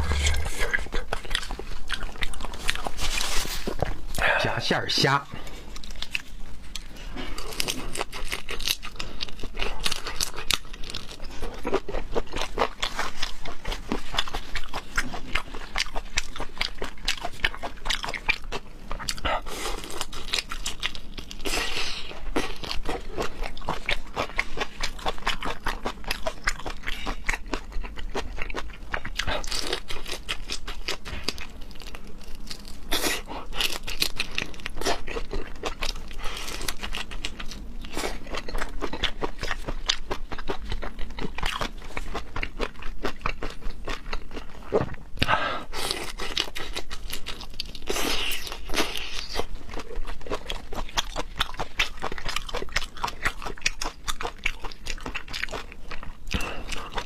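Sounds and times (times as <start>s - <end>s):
crunching and chewing: 0.0s - 4.3s, 5.4s - 57.0s.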